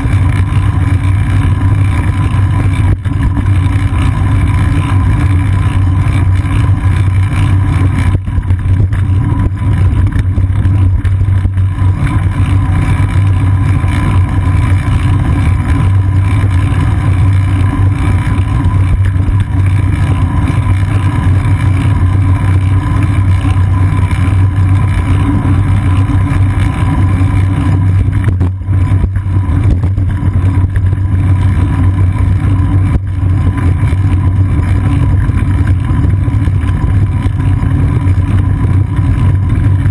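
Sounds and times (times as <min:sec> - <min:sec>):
constant low drone: 0:00.0 - 0:39.9
wind and road rumble: 0:00.0 - 0:39.9.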